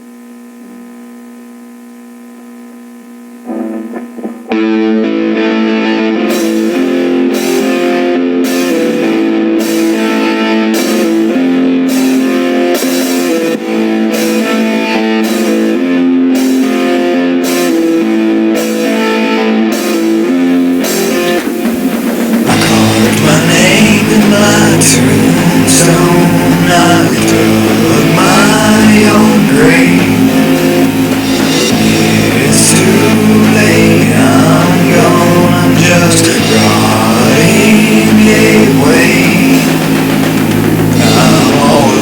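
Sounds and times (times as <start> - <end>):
drums: 3.2 - 42.0
heavy electric guitar riff: 3.2 - 42.0.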